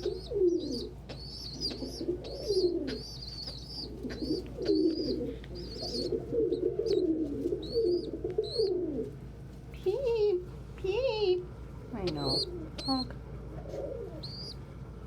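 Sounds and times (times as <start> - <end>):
pigeons cooing: 0.0 - 14.7
baby pigeons peeping: 0.0 - 15.0.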